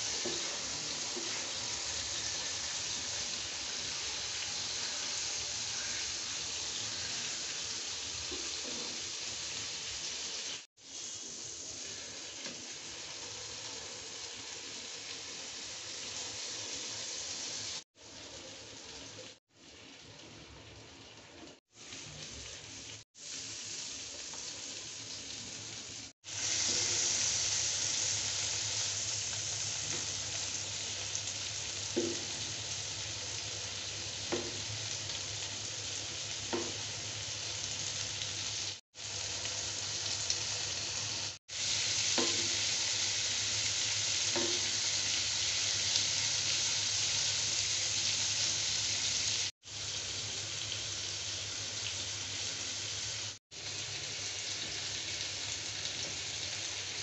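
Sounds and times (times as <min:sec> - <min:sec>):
steaks sizzling in a pan: 0:00.0 - 0:20.0, 0:21.6 - 0:57.0.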